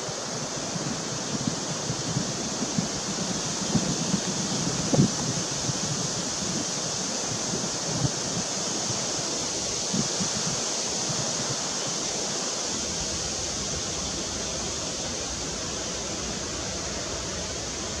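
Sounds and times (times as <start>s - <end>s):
outdoor rushing hiss: 0.0s - 18.0s.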